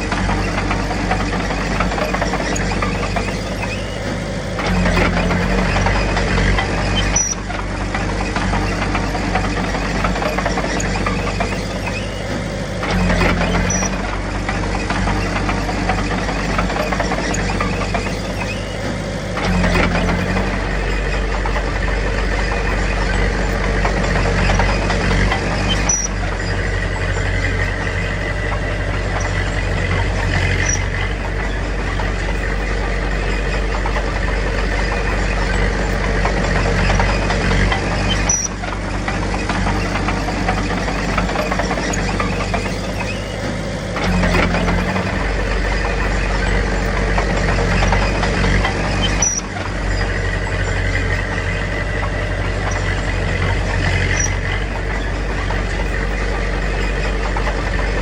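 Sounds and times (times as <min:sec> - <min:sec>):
diesel machinery engine running: 0:00.0 - 0:58.0.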